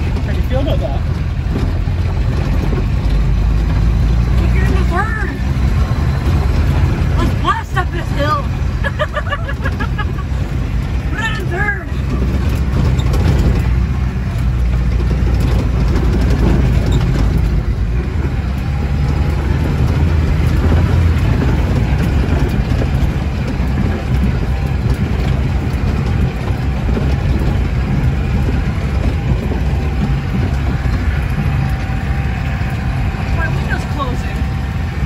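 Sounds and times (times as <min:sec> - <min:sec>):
car engine under load: 0:00.0 - 0:35.0
tyres rolling on dirt road: 0:00.0 - 0:35.0.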